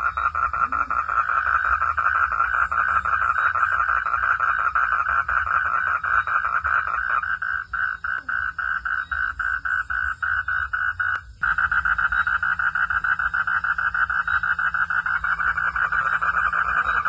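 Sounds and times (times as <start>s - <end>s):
frogs calling in pulsed notes: 0.0s - 17.0s.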